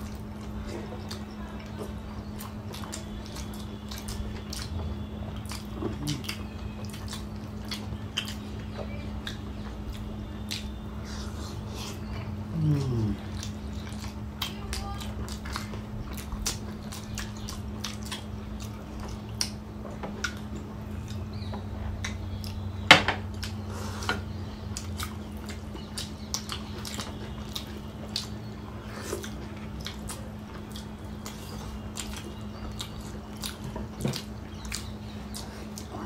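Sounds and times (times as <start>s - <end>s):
chewing and lip-smacking: 0.0s - 36.0s
steady low hum: 0.0s - 36.0s.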